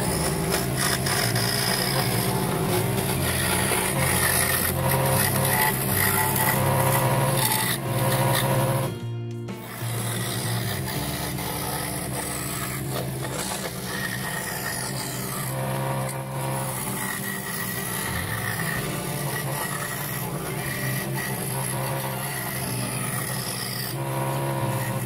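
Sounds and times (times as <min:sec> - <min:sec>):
scroll saw blade rasping wood: 0:00.0 - 0:25.0
steady motor hum: 0:00.0 - 0:25.0.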